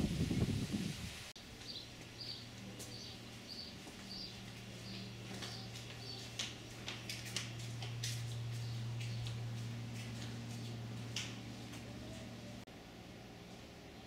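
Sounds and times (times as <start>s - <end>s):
steady low hum: 1.4s - 14.0s.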